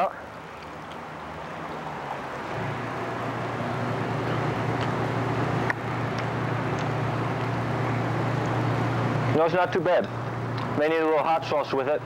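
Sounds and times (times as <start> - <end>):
motor vehicle rumbling: 0.0 - 12.0.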